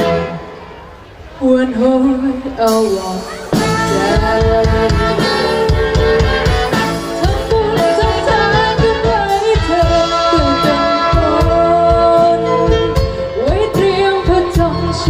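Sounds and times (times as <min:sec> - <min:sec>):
live band playing a ballad: 0:00.0 - 0:15.0.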